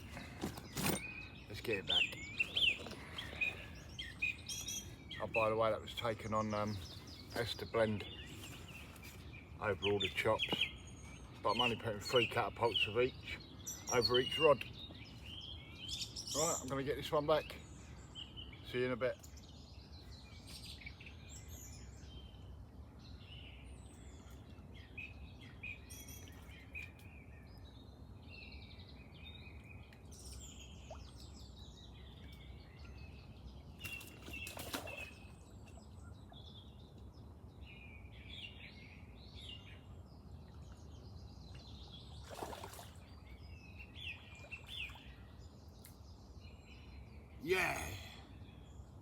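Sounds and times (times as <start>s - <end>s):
low outdoor background: 0.0s - 49.0s
small birds chirping: 0.0s - 49.0s.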